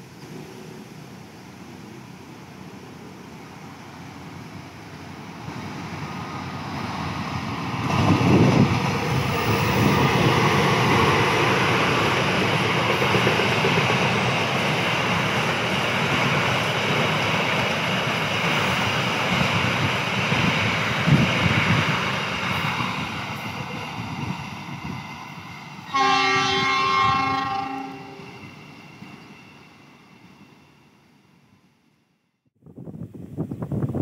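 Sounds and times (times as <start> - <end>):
diesel locomotive engine rumble: 0.0 - 31.6
wheel and rail noise: 0.0 - 31.7.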